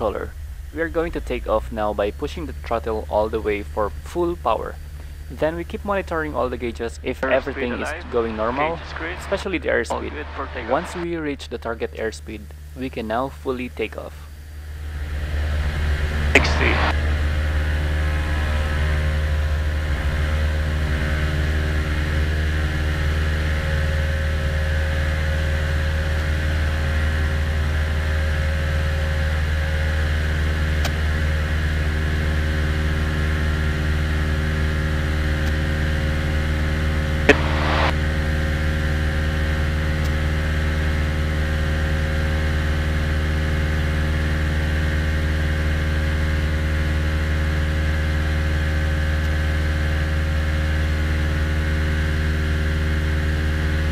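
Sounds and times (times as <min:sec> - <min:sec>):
aircraft engine and propeller: 0:00.0 - 0:12.8, 0:13.5 - 0:53.9.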